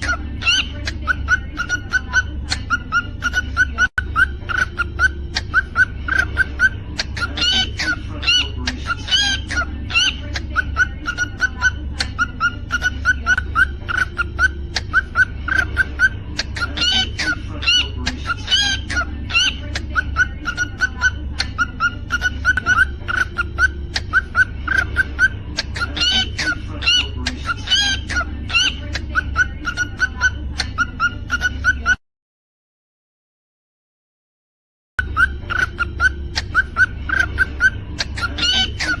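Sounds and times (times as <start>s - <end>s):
cockatiel chirping and whistling: 0.0s - 32.0s, 35.0s - 39.0s.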